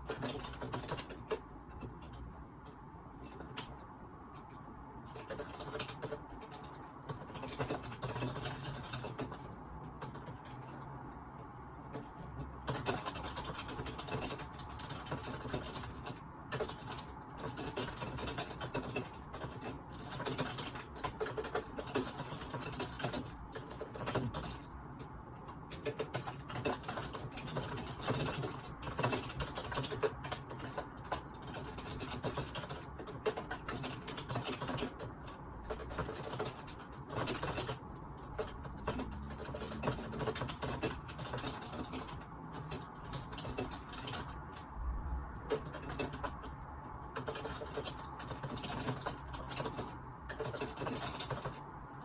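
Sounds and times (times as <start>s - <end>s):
typing on computer keyboard: 0.0s - 52.0s.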